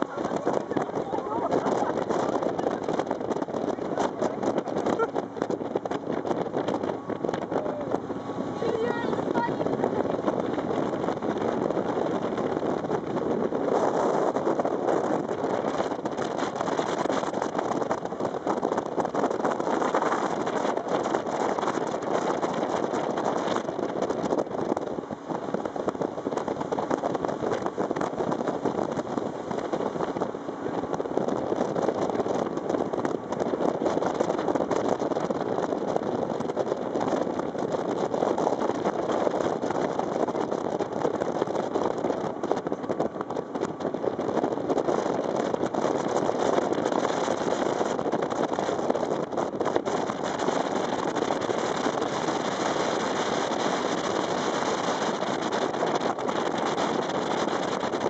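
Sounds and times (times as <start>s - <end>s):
boat engine running: 0.0s - 58.0s
wind over microphone: 0.0s - 58.0s.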